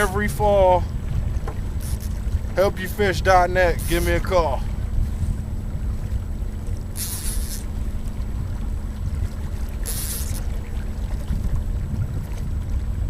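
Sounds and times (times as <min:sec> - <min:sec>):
low hum: 0:00.0 - 0:13.0
wind and water rumble: 0:00.0 - 0:13.0.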